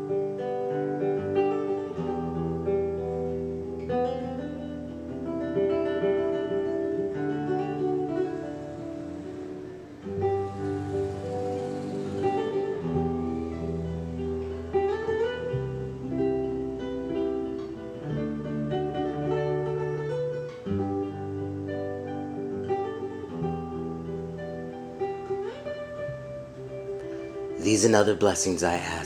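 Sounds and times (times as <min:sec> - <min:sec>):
acoustic guitar chords: 0:00.0 - 0:29.0.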